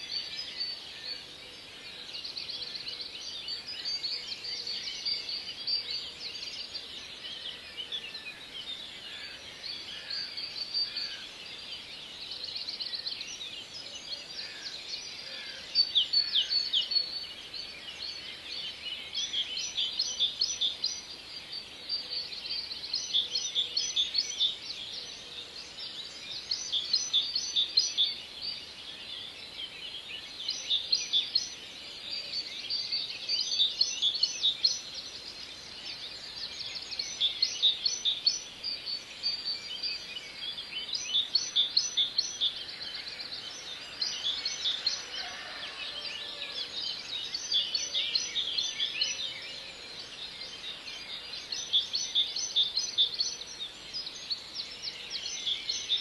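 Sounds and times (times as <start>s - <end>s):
steady outdoor hiss: 0.0s - 56.0s.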